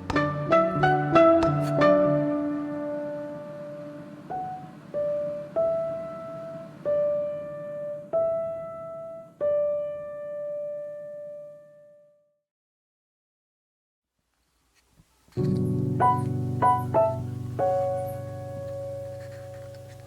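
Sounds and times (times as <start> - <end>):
slow piano melody: 0.0 - 12.3, 15.4 - 20.0.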